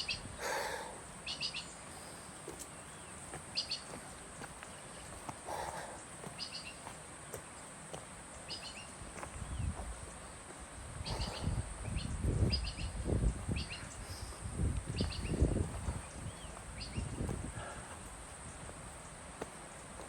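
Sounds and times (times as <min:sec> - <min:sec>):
bird chirping: 0:00.0 - 0:00.3, 0:01.1 - 0:07.7, 0:08.3 - 0:10.4, 0:11.0 - 0:19.4
footsteps on a trail: 0:00.0 - 0:20.0
high insect hum: 0:00.0 - 0:20.0.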